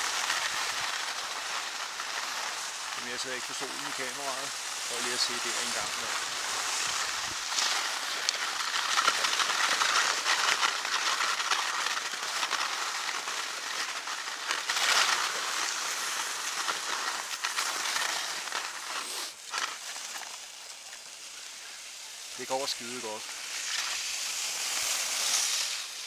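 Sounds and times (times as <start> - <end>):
skis scraping over packed snow: 0.0 - 26.0.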